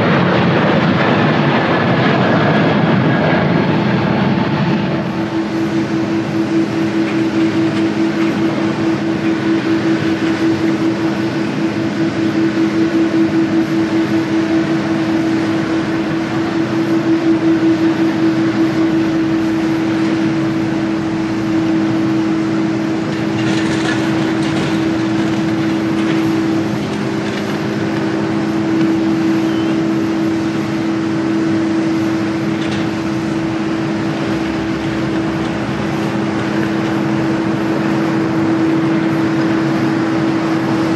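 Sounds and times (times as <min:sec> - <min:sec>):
broad rushing noise: 0:00.0 - 0:40.9
jet engines humming: 0:00.0 - 0:40.9.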